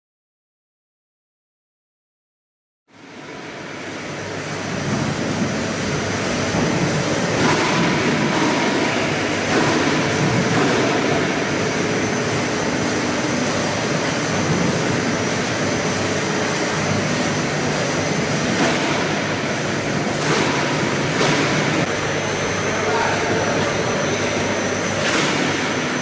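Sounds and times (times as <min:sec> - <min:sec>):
processing machinery drone: 0:02.9 - 0:26.0.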